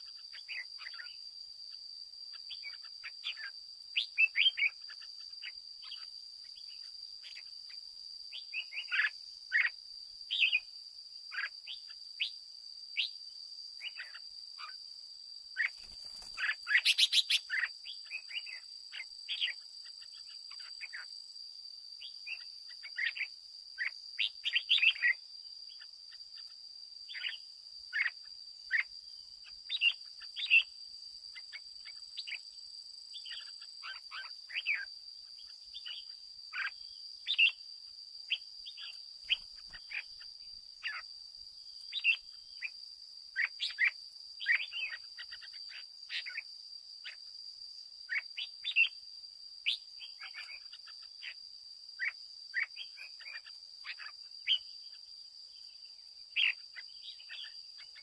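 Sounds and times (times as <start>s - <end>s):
bird chirping: 0.0s - 10.7s, 11.3s - 12.4s, 13.8s - 14.8s, 15.6s - 21.2s, 22.0s - 37.7s, 38.3s - 41.1s, 41.8s - 47.2s, 48.1s - 49.0s, 49.6s - 51.4s, 52.0s - 58.0s.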